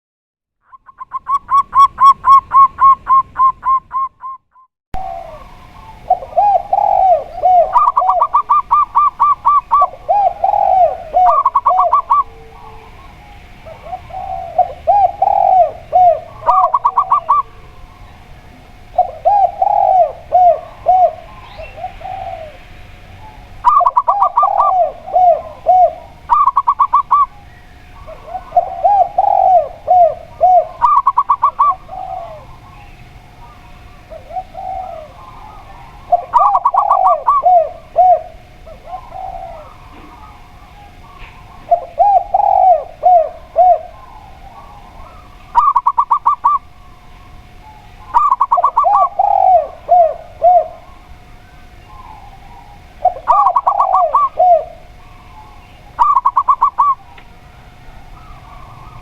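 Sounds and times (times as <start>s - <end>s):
dove higher staccato coos: 5.0s - 59.0s
dove lower rolling coos: 5.0s - 59.0s.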